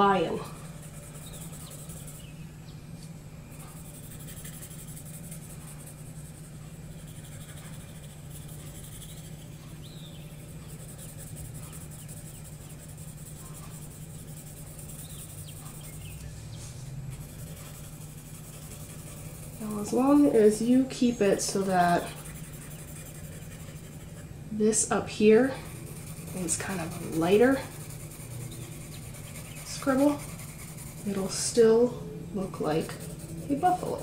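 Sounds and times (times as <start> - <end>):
pencil scratching on paper: 0.0 - 2.3, 3.5 - 34.0
low hum and hiss: 0.0 - 34.0.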